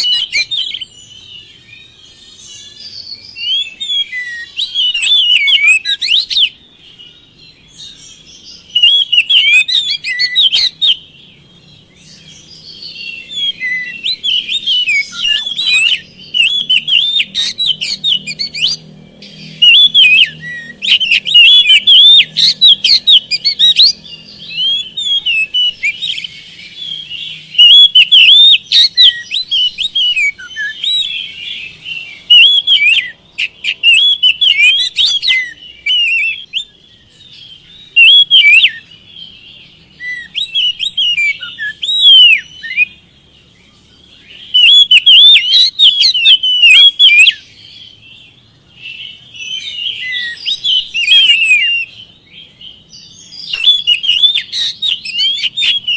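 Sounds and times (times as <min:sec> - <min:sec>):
songbird whistling phrases: 0:00.0 - 0:43.0, 0:43.7 - 0:55.9.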